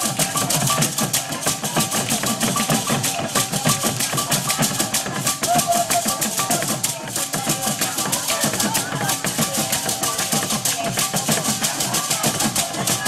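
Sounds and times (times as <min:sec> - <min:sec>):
hand drums playing fast rhythm: 0:00.0 - 0:13.0.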